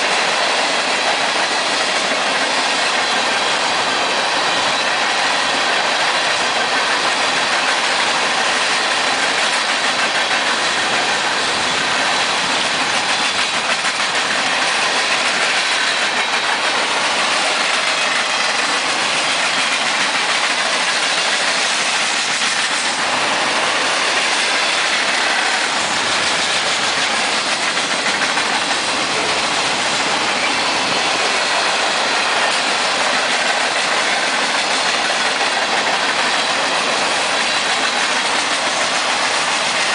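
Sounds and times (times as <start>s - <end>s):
train wheels rushing on rails: 0.0s - 39.9s
wheels clacking over rail joints: 4.5s - 39.9s.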